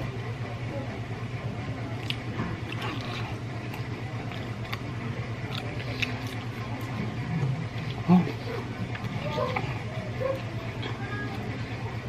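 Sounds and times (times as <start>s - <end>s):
person chewing: 2.0s - 11.8s.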